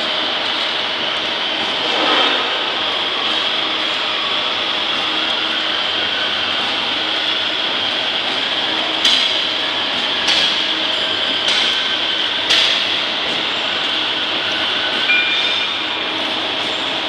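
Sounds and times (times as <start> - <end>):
packing machine whirring and hissing: 0.0 - 17.0.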